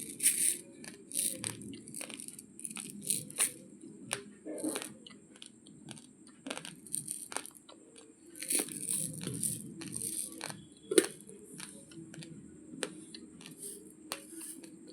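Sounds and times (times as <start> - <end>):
rice grains being chewed: 0.0 - 14.9.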